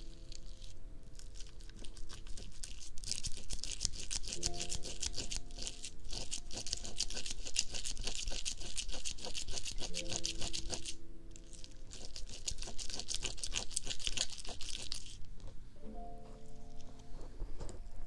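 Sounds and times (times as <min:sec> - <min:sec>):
fingertips scratching sticky material: 0:00.0 - 0:15.5
faint background music: 0:00.0 - 0:18.0.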